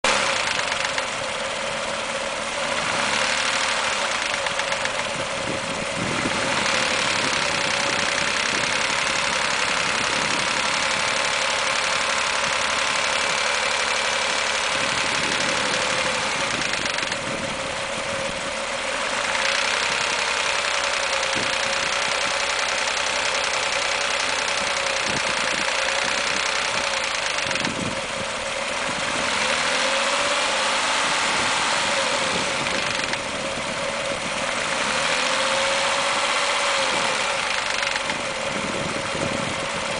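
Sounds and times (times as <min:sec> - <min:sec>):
car engine running at low revs: 0:00.0 - 0:39.9
engine knock rattle: 0:00.1 - 0:39.9.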